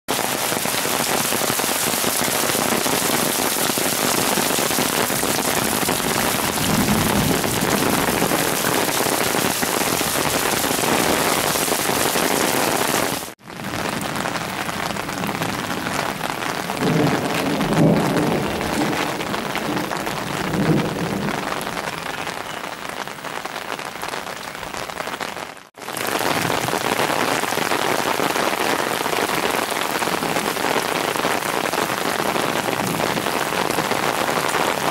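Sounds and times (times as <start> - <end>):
heavy rain on flooded street: 0.1 - 34.9.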